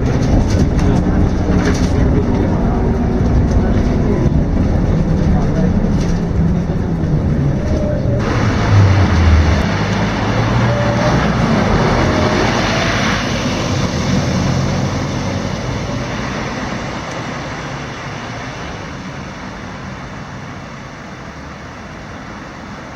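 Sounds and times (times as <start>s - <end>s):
bus engine running: 0.0s - 22.9s
road noise: 0.0s - 22.9s.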